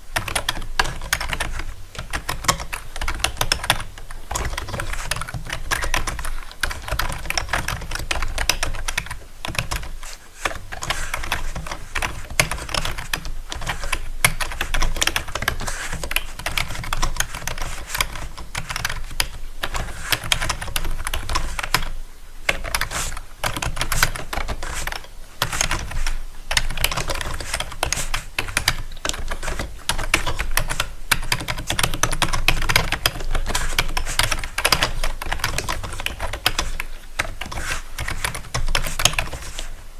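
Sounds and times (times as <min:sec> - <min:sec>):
keyboard typing: 0:00.2 - 0:39.7.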